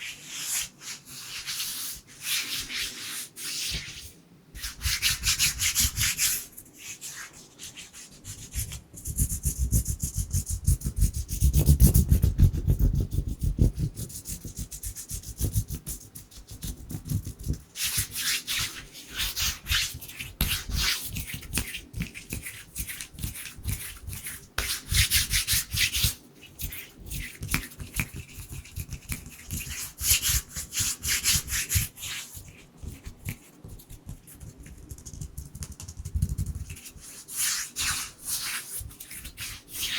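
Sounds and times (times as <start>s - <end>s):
hands rubbing together: 0.2s - 39.9s.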